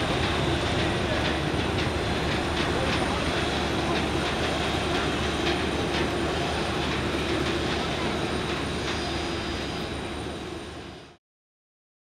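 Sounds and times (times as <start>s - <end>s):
jet airliner engine drone: 0.0s - 11.2s.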